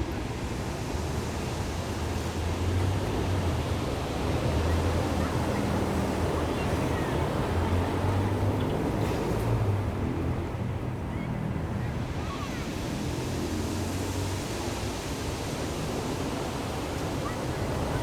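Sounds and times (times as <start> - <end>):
surf washing on beach: 0.0 - 18.0.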